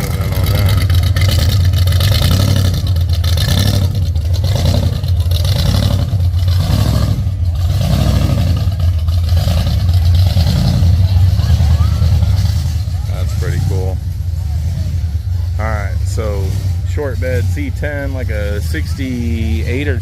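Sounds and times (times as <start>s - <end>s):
hot rod engine loping: 0.0s - 20.0s.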